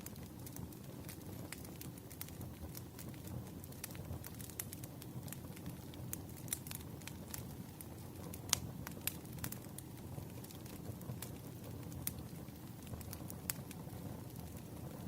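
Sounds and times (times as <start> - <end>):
fire low rumble: 0.0 - 15.0
firewood crackling and popping: 0.0 - 15.0.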